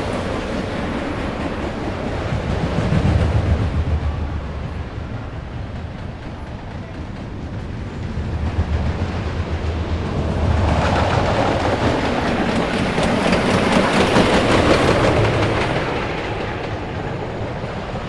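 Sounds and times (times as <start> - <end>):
roller coaster rattling on wooden track: 0.0 - 18.0.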